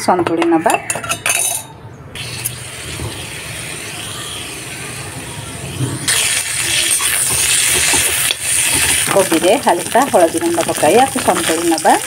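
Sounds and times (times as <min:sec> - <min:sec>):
vegetables sizzling in hot oil: 0:02.2 - 0:12.0.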